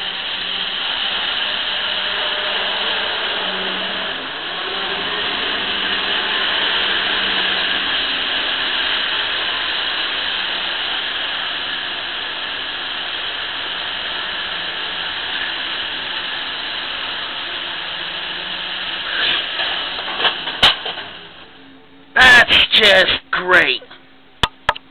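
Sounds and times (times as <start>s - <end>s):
model train whirring rattle: 0.0s - 21.6s.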